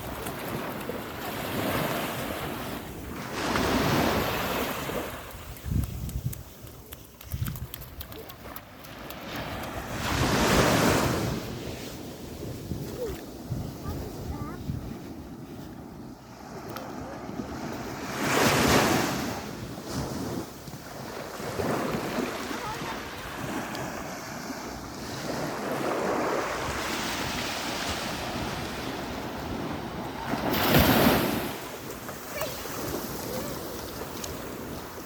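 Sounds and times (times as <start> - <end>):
sea waves washing: 0.0 - 35.0
wind rumbling on microphone: 0.0 - 35.0.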